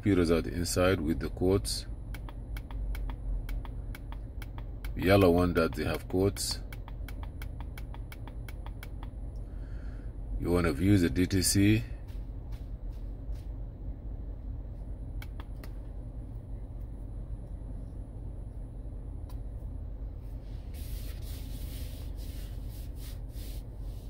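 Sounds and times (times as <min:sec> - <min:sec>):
car engine idling: 0:00.0 - 0:22.8.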